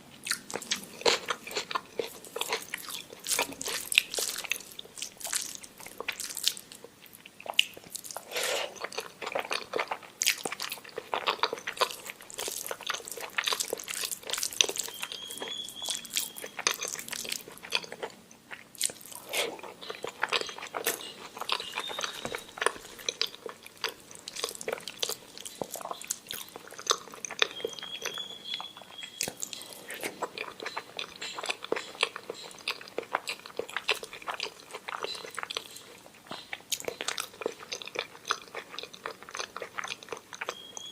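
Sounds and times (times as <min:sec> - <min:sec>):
mouth chewing food: 0:00.0 - 0:40.9.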